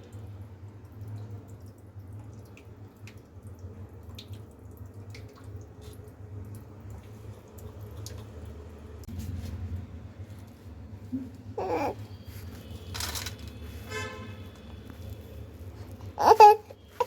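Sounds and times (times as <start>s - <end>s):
water drips: 0.0s - 17.0s.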